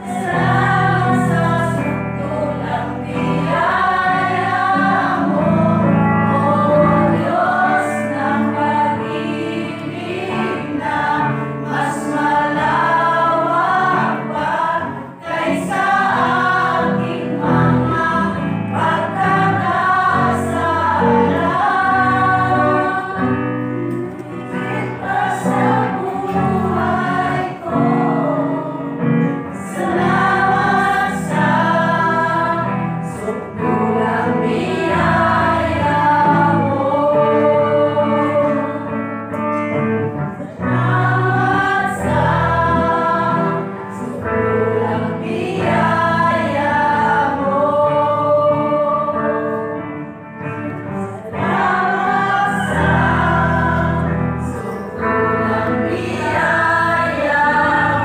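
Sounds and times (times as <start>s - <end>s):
women singing in unison: 0.0s - 39.1s, 40.3s - 49.8s, 51.0s - 58.0s.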